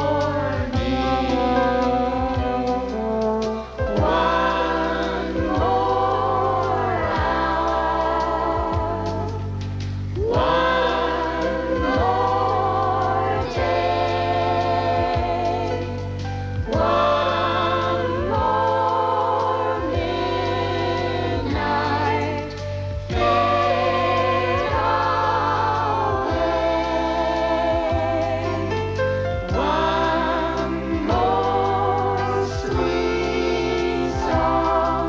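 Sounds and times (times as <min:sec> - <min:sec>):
singing voices with vibrato: 0:00.0 - 0:35.0
steady bass accompaniment: 0:00.0 - 0:35.0.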